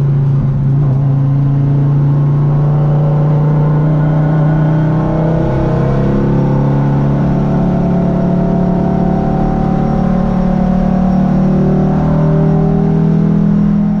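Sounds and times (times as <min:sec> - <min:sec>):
race car engine running: 0:00.0 - 0:14.0.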